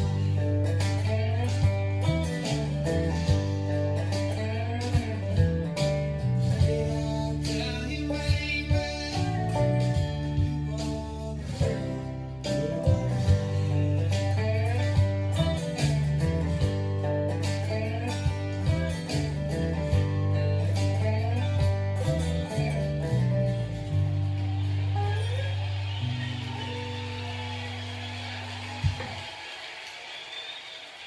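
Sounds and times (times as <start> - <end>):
slide guitar melody: 0.0 - 28.9.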